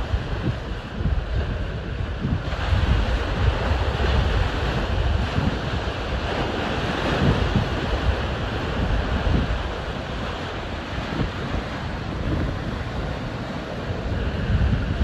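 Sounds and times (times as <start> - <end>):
choppy waves breaking: 0.0 - 15.0
wind buffeting microphone: 0.0 - 15.0.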